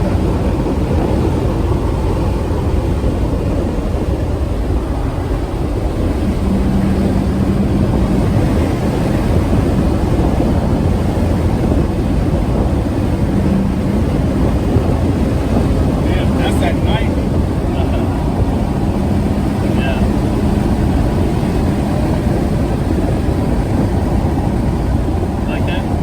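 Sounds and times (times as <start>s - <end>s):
car engine road and wind noise: 0.0s - 26.0s
low steady hum: 0.0s - 26.0s.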